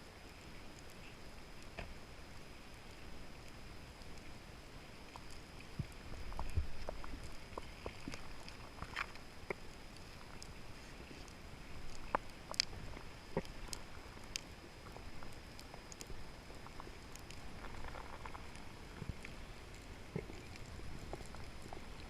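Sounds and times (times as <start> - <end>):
low underwater hiss: 0.0 - 22.0.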